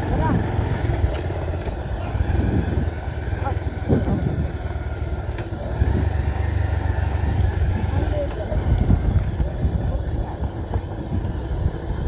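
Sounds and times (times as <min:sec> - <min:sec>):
vehicle low rumble: 0:00.0 - 0:12.0.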